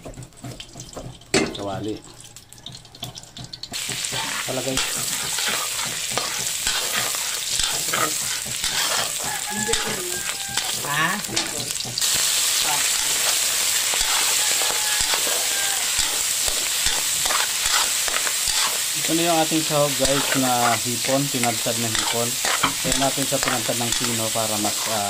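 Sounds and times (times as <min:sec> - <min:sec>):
food sizzling in hot oil: 0:00.4 - 0:25.0
metal spatula scraping wok: 0:03.8 - 0:25.0.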